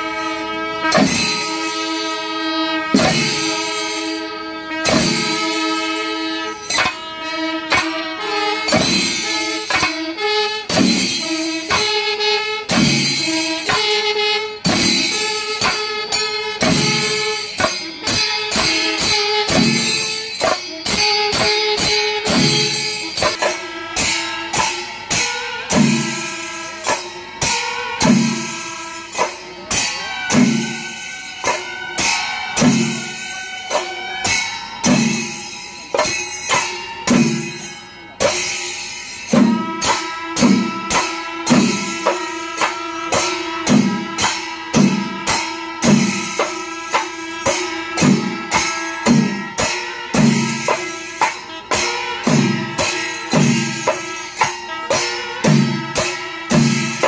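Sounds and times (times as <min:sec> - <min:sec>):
jingling cymbals: 0:00.0 - 0:57.0
drums beating: 0:00.8 - 0:01.8, 0:02.8 - 0:03.8, 0:04.7 - 0:06.0, 0:06.6 - 0:57.0.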